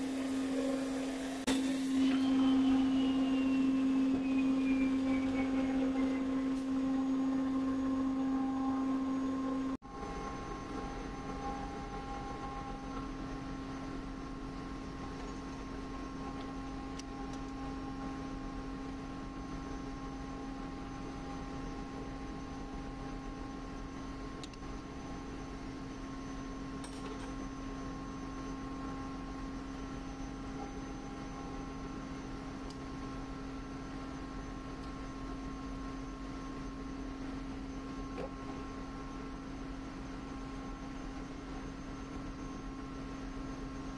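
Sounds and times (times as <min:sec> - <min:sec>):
machinery hum: 0:00.0 - 0:43.9.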